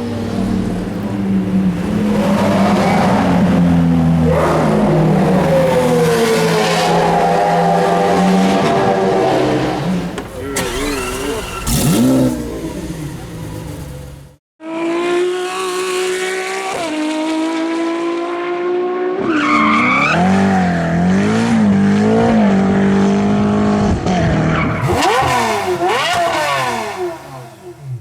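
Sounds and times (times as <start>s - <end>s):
sports car engine revving: 0.4s - 19.2s, 20.1s - 28.0s.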